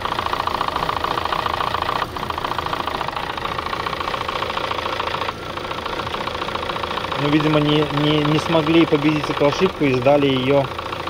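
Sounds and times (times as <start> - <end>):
car engine idling: 0.0 - 11.0
fast ticking from engine: 0.0 - 11.0.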